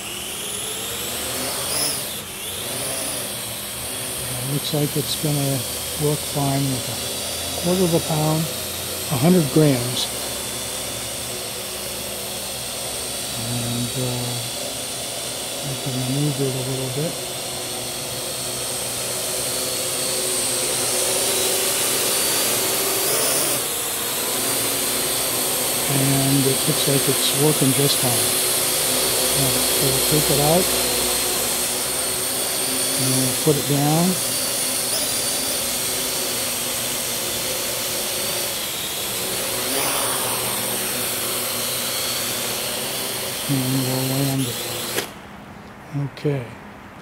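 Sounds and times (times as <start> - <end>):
drone rotors buzzing: 0.0 - 45.3.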